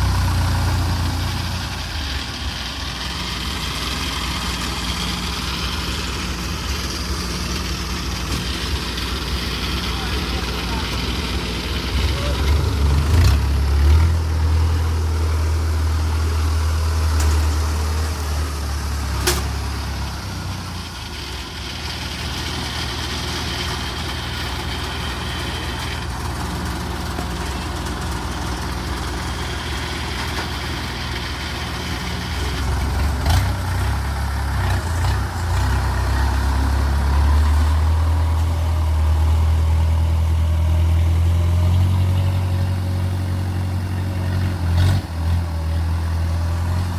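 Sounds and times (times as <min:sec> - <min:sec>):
harvester engine drone: 0:00.0 - 0:46.9.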